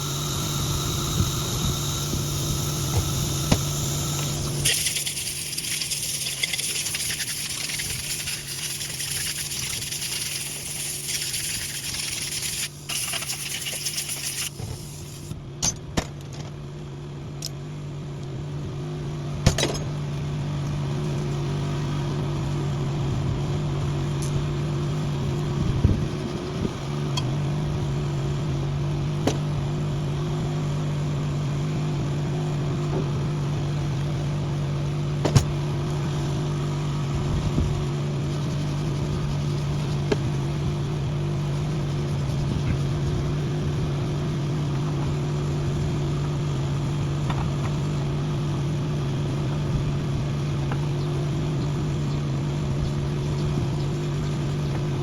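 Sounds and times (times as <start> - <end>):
machine hum: 0.0 - 15.4, 20.1 - 55.0.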